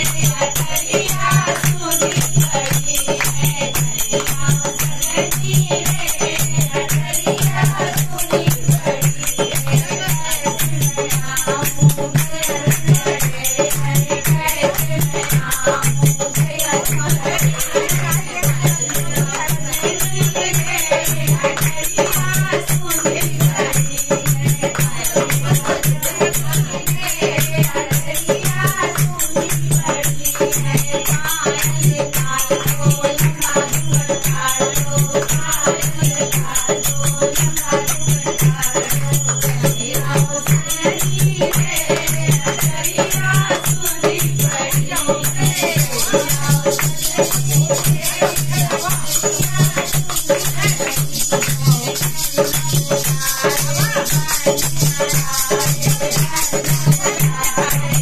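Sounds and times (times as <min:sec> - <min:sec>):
hand drum beat: 0:00.0 - 0:58.0
rattling percussion: 0:00.0 - 0:58.0
women singing together: 0:00.0 - 0:58.0.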